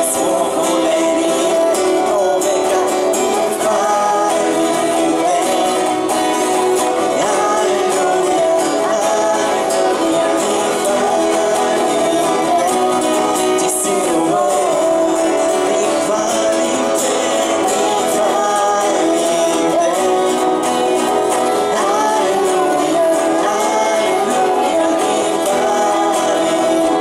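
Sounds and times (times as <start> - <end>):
acoustic guitars: 0.0 - 27.0.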